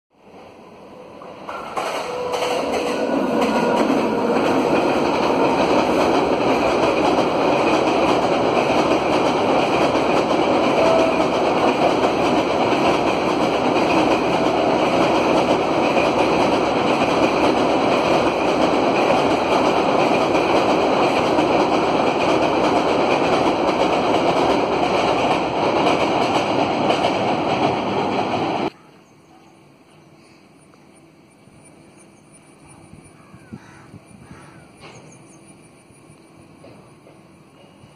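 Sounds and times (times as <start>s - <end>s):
train wheels on bridge rails: 0.2s - 28.7s, 34.7s - 37.9s.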